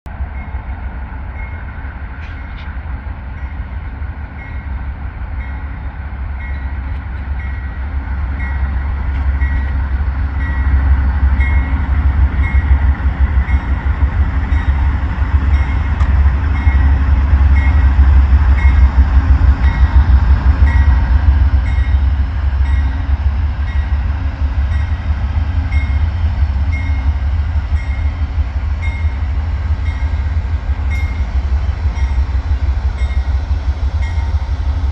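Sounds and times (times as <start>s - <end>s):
diesel locomotive rumble: 0.0s - 34.9s.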